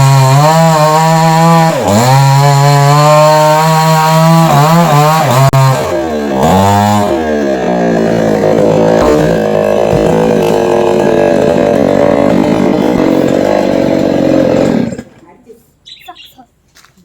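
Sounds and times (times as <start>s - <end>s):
chainsaw cutting wood: 0.0s - 15.2s.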